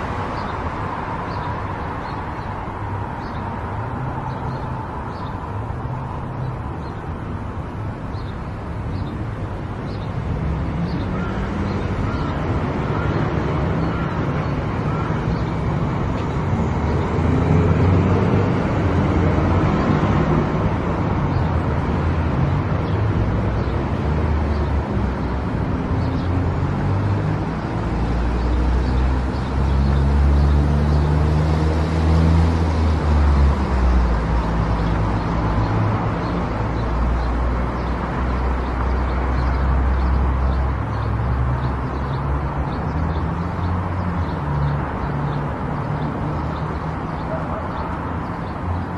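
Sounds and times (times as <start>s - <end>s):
tyre and road noise: 0.0s - 48.9s.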